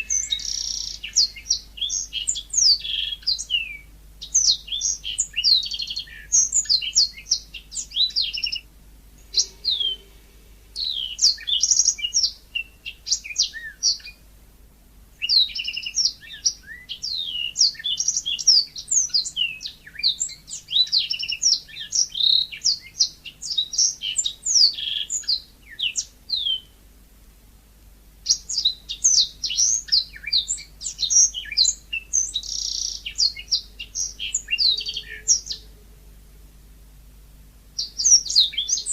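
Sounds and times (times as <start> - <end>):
canary singing chirps and trills: 0.0 - 14.2, 15.2 - 26.8, 28.2 - 36.2, 37.4 - 38.9.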